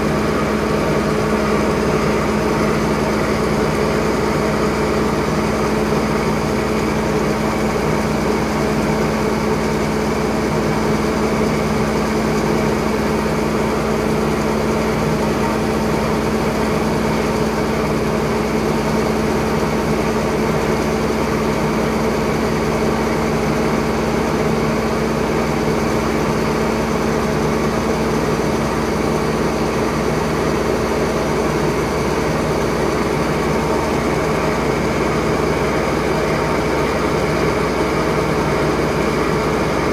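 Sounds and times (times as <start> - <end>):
grain auger machinery drone: 0.0 - 39.9.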